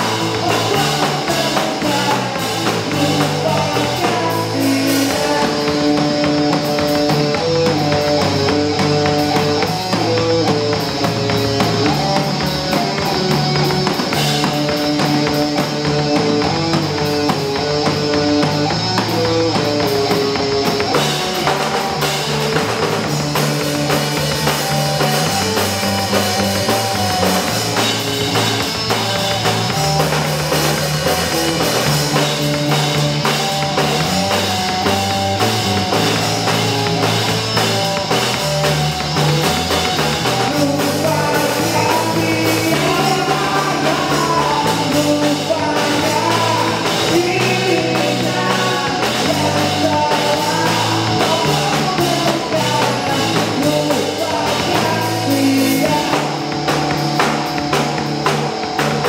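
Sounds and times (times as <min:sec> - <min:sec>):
bass guitar: 0:00.0 - 0:59.0
drum kit beat: 0:00.0 - 0:59.0
electric guitar: 0:00.0 - 0:59.0.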